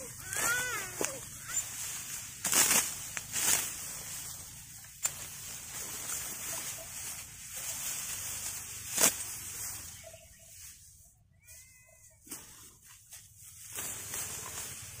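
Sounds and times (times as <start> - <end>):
dry stalks rustling: 0.0 - 15.0
sickle cutting rice stalks: 0.0 - 15.0.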